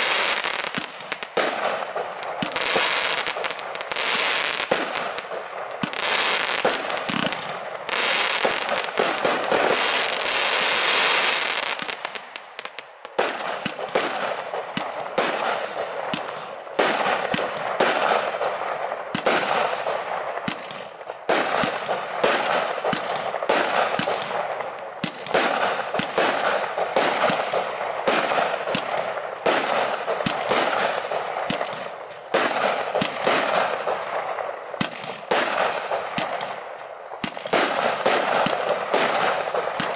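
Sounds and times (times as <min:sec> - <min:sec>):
firework battery firing: 0:00.0 - 0:39.9.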